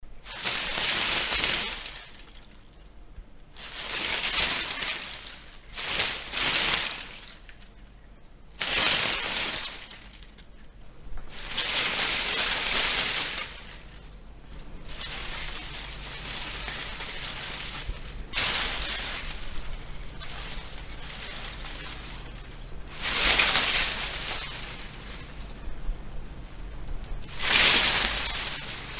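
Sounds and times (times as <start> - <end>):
bush leaves and twigs rustling: 0.2 - 2.8, 3.5 - 7.8, 8.6 - 28.9.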